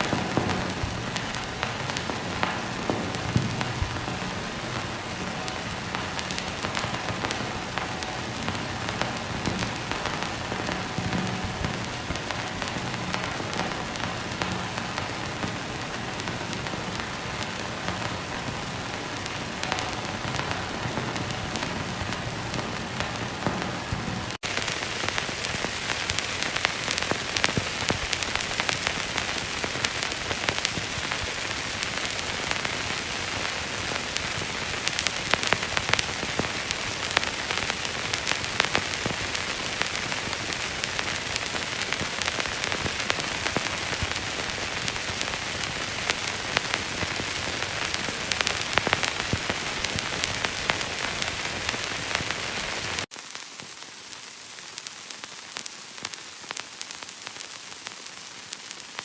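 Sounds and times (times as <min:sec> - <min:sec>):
film hiss with crackles and pops: 0:00.0 - 0:59.0.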